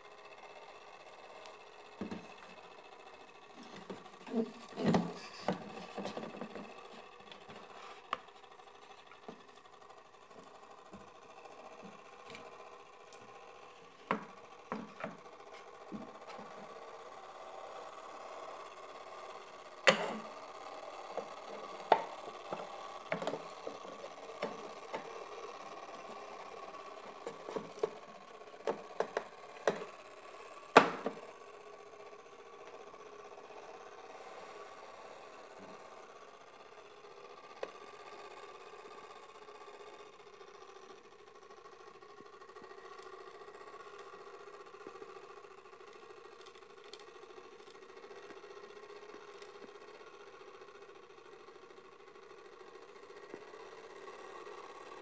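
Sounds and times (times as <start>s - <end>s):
clockwork mechanism whirring: 0.0s - 55.0s.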